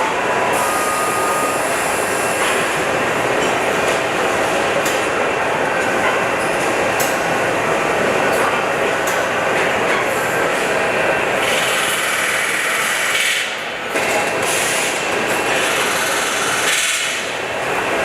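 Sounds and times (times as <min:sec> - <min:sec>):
din of factory machinery: 0:00.0 - 0:18.0.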